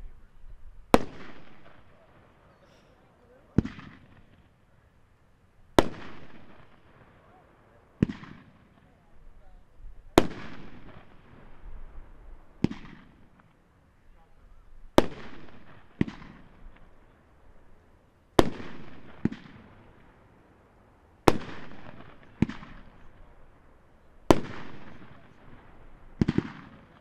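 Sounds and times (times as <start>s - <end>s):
firework bangs: 0.8s - 4.7s, 5.7s - 13.7s, 14.9s - 27.0s.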